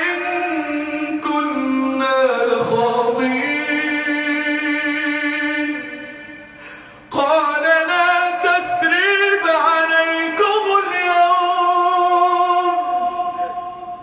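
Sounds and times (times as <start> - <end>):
man reciting in melodic style: 0.0 - 14.0.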